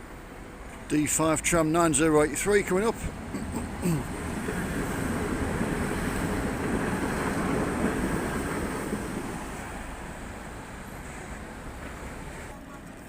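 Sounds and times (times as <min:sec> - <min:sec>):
tram passing rumble: 0:00.0 - 0:13.0.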